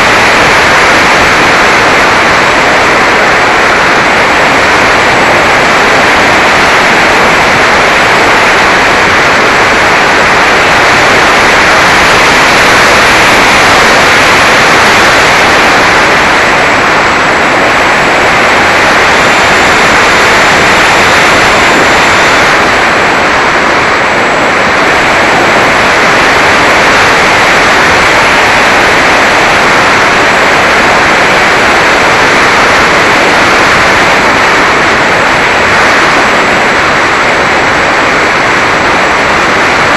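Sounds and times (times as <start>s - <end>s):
propeller whirring: 0.0s - 39.9s
rushing airflow: 0.0s - 39.9s.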